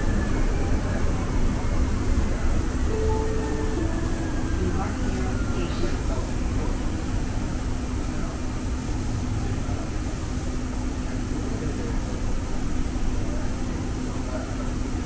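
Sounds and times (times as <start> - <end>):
light-rail car low rumble: 0.0 - 15.0.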